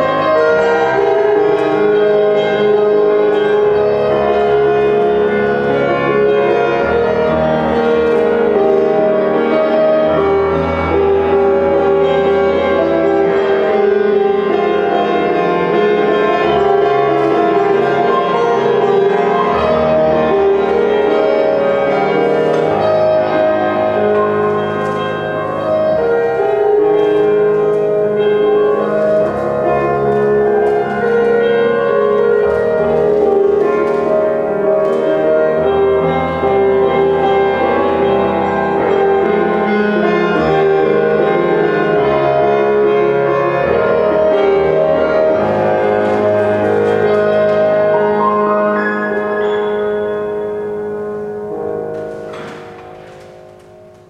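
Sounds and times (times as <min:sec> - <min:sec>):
solo classical piano: 0:00.0 - 0:54.0.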